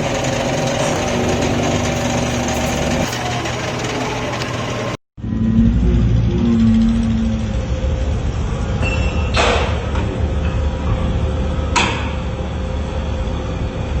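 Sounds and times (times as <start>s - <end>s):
machine rumbling: 0.0s - 14.0s.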